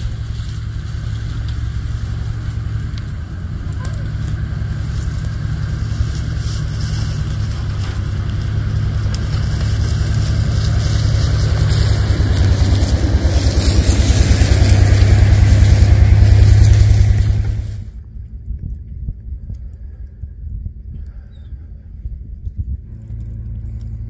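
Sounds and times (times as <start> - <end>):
pickup truck engine low hum: 0.0 - 24.0.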